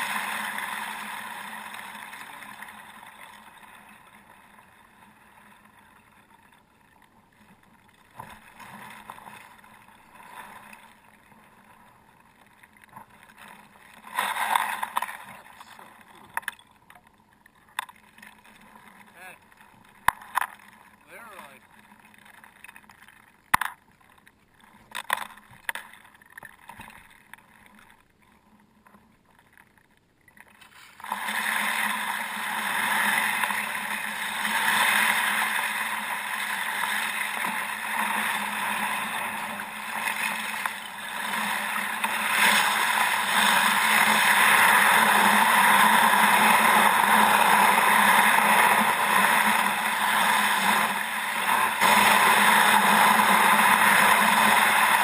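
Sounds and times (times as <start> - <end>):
kayak hull through ice: 0.0 - 55.0.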